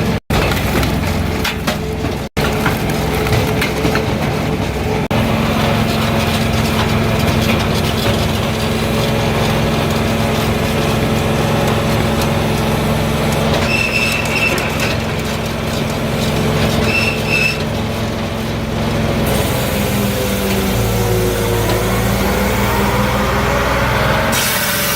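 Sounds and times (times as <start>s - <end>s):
diesel engine droning: 0.0s - 24.9s.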